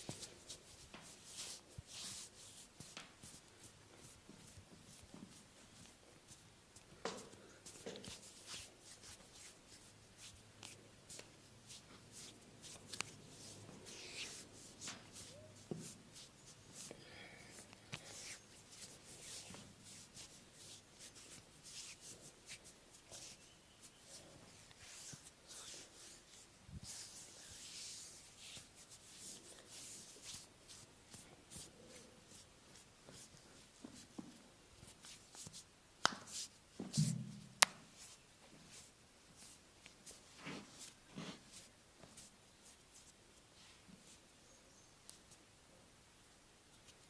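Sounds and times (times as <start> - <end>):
hands rubbing bare skin: 0.0 - 44.3.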